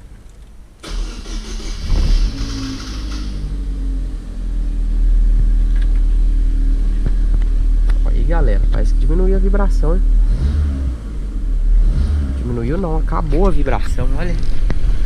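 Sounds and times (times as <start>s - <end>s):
car engine running: 1.6s - 15.0s.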